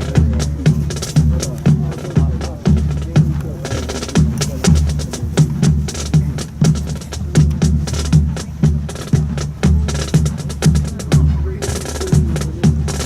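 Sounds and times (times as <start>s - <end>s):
bass drum beats: 0.0s - 13.0s
snare drum and stick clicks: 0.0s - 13.0s.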